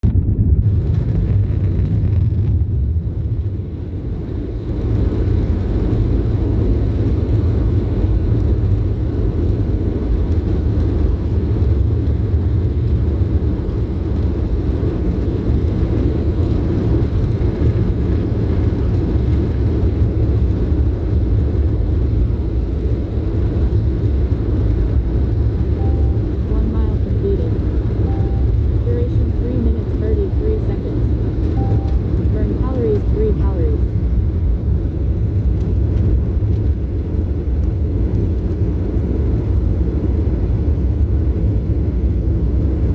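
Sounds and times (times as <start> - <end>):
jet engines low rumble: 0.0 - 42.9.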